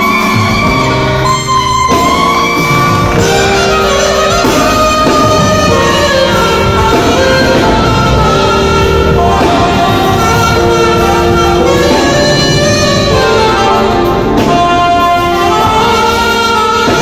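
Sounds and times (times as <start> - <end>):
keyboard accompaniment: 0.0 - 17.0
saxophone melody: 0.0 - 17.0.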